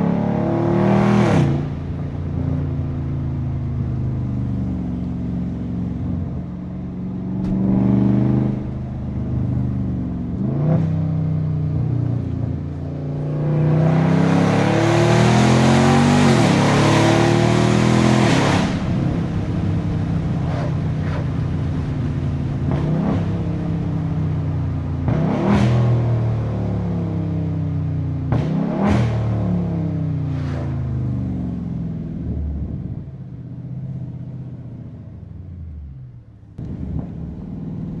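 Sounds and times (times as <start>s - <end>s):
car exhaust while driving: 0.0s - 38.0s.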